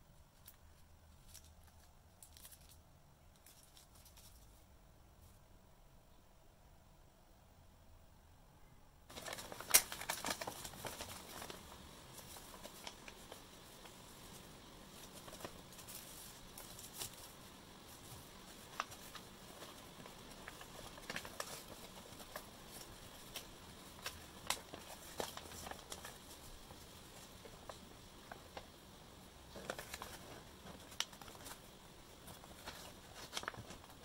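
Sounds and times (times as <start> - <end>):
paper crinkling and rustling: 0.2 - 5.4, 9.1 - 34.0.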